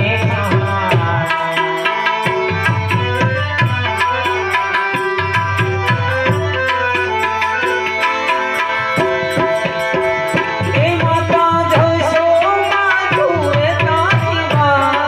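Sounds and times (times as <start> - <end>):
harmonium chords: 0.0 - 15.0
tabla beat: 0.0 - 15.0.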